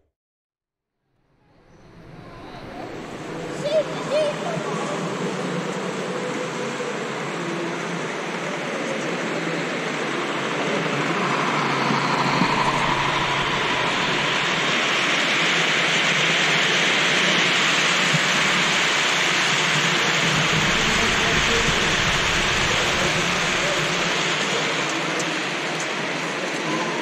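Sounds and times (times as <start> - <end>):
model train rumbling on track: 2.1 - 27.0.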